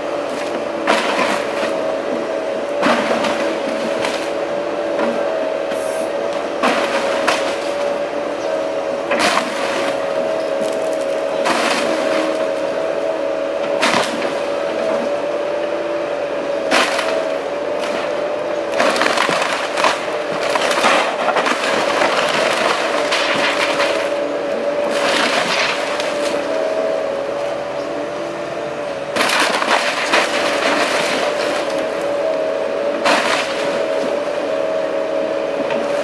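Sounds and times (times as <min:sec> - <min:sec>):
excavator engine whine: 0:00.0 - 0:36.0
wood cracking and splintering: 0:00.2 - 0:08.0, 0:08.6 - 0:16.0, 0:16.6 - 0:27.5, 0:29.1 - 0:36.0.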